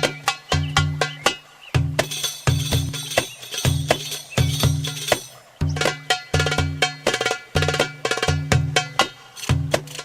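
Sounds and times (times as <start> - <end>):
goblet drum playing quick rhythm: 0.0 - 10.0.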